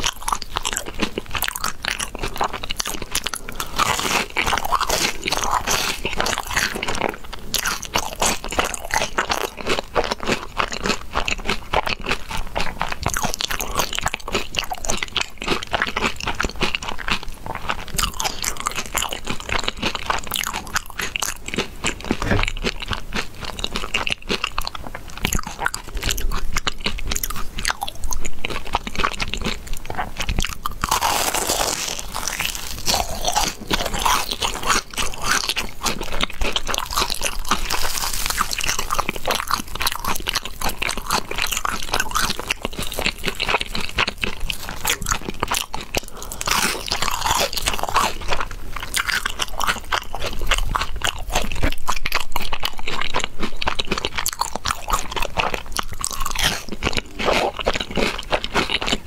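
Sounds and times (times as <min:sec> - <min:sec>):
crunching and chewing fried food: 0:00.0 - 0:59.0.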